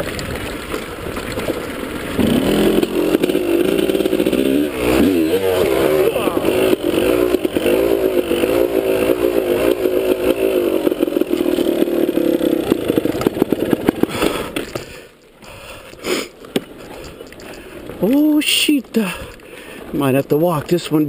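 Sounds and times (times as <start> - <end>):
dirt bike engine running: 0.0 - 20.1.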